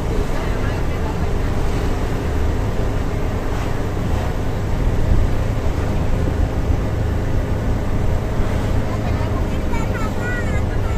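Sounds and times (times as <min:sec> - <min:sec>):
road noise: 0:00.0 - 0:10.9
truck engine rumble in cab: 0:00.0 - 0:10.9.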